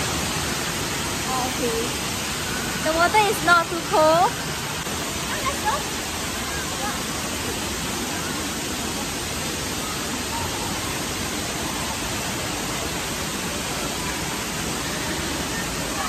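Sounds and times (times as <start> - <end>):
running water rushing hiss: 0.0 - 16.0.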